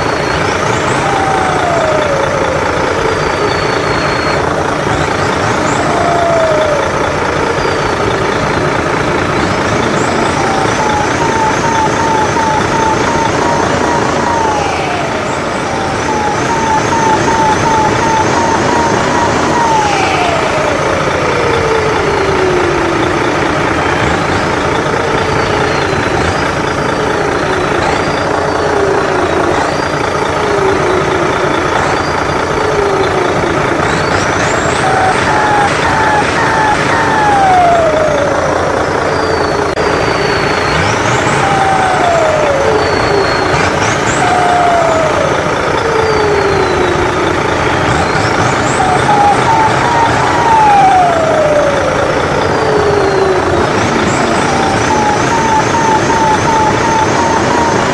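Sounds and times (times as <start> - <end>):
toy truck engine drone: 0.0 - 57.9
turbo whine: 0.0 - 57.9.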